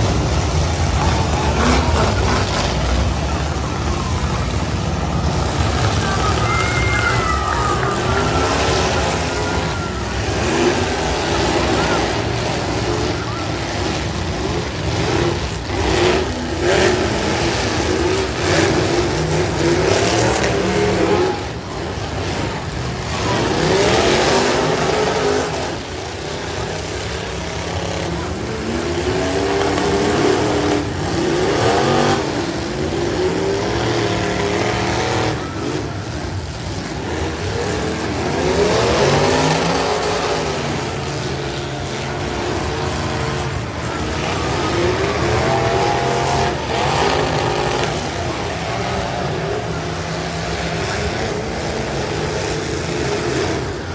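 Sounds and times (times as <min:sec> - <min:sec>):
cars crashing together: 0:00.0 - 0:50.3
car engines revving: 0:00.0 - 0:53.9.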